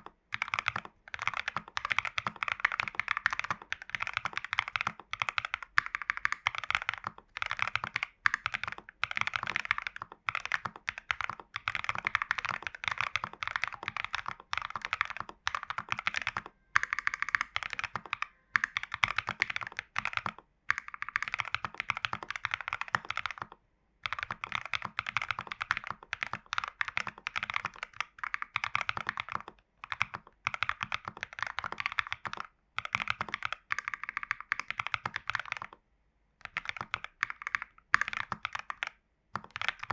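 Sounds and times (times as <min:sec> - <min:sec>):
mechanical keyboard typing: 0:00.0 - 0:35.8, 0:36.4 - 0:39.9.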